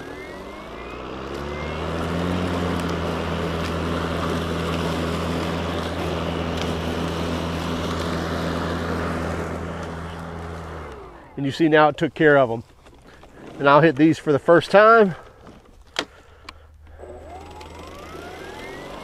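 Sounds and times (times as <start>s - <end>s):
grass being cut: 0.0s - 14.0s, 16.9s - 19.0s
lawn mower motor humming: 0.0s - 19.0s.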